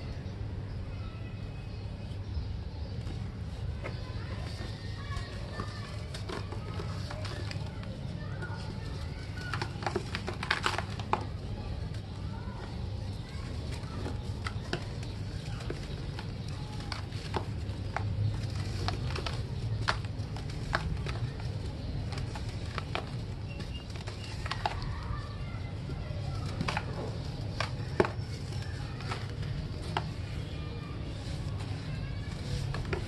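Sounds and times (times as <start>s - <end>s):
dirt clumps cracking and crunching: 3.0s - 33.0s.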